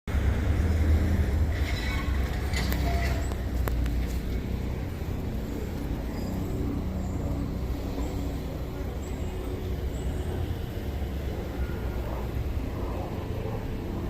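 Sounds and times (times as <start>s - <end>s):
traffic engine rumble: 0.1s - 14.0s.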